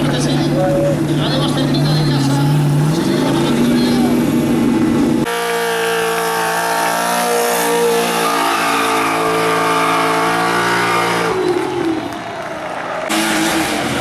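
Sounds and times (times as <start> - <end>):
car engine at high revs: 0.0 - 12.1, 13.0 - 14.0.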